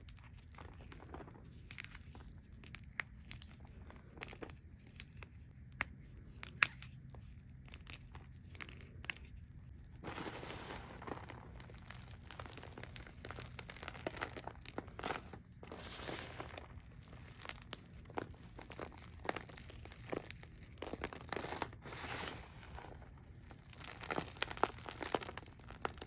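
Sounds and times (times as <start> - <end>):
chalk crunching and crackling: 0.0 - 26.0.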